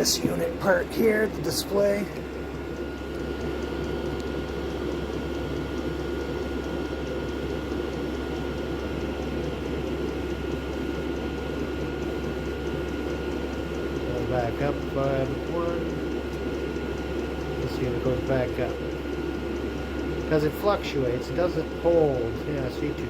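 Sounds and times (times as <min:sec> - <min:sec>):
thin steady whine: 0:00.0 - 0:23.0.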